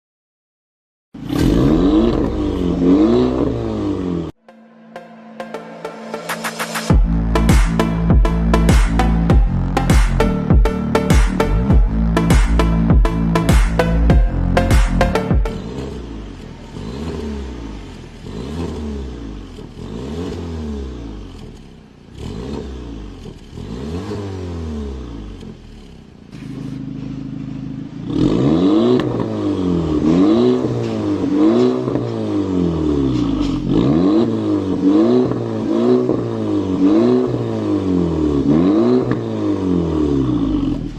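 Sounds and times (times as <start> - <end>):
car engine revving: 1.2 - 4.4, 5.4 - 40.9.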